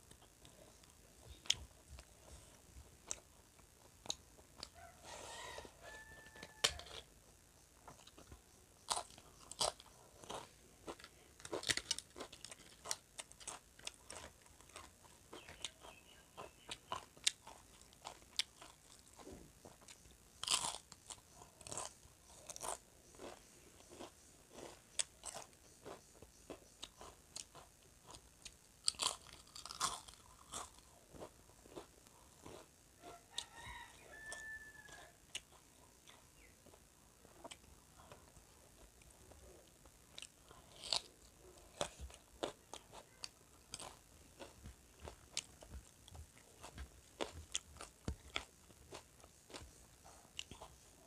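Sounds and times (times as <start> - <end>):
crunching of fried food: 0.0 - 7.1, 7.8 - 51.0
chewing: 7.8 - 33.5, 34.8 - 51.0.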